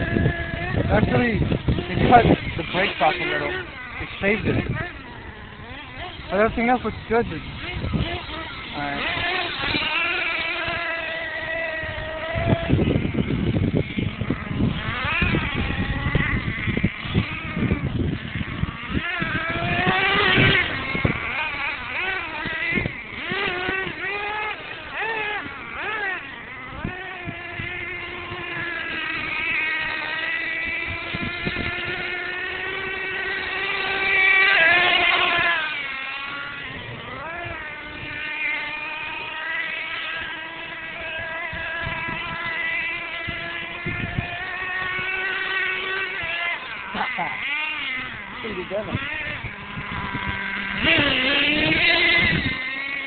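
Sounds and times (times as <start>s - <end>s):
small engine buzzing: 0.0s - 53.0s.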